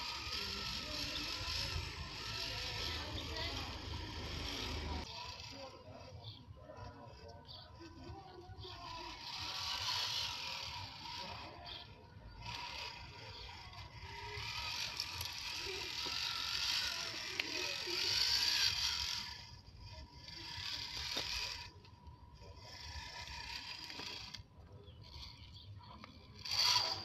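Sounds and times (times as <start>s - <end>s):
rc car motor whirring: 0.0s - 27.0s.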